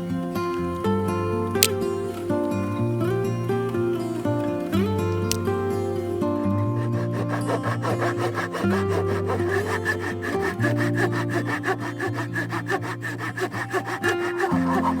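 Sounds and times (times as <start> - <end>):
small saw cutting wood: 0.0 - 15.0.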